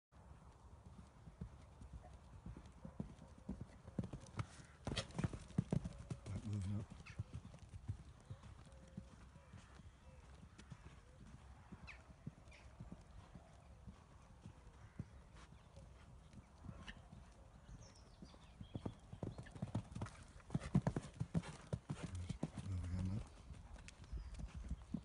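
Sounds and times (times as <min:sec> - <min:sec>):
hooves cantering on sand: 0:00.5 - 0:25.0.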